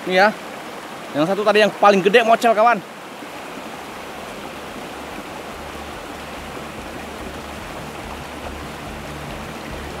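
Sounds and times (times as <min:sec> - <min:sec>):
river water rushing over stones: 0:00.0 - 0:10.0.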